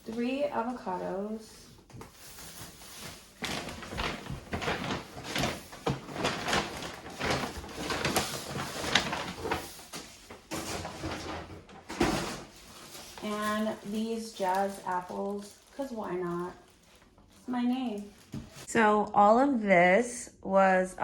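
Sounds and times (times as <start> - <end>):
grocery bags rustling: 0.0 - 18.7.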